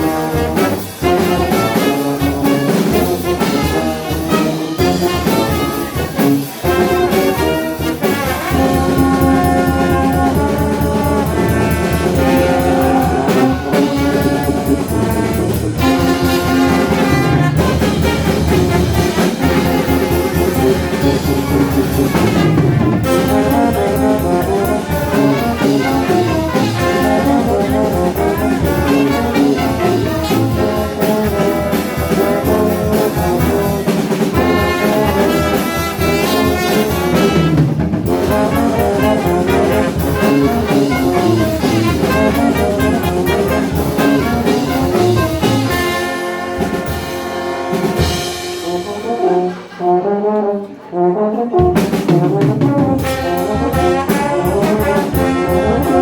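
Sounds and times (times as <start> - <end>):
fast drum kit: 0.0 - 49.8, 51.5 - 56.0
brass band playing metal: 0.0 - 56.0.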